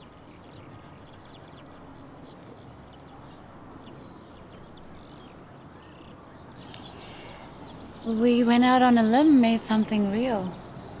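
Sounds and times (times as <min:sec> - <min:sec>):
low background hum: 0:00.0 - 0:11.0
small birds chirping: 0:00.0 - 0:11.0.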